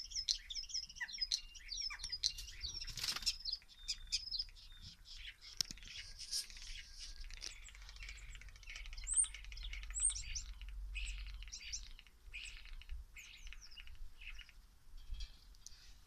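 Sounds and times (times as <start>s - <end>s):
starlings chattering and whistling: 0.0s - 16.0s.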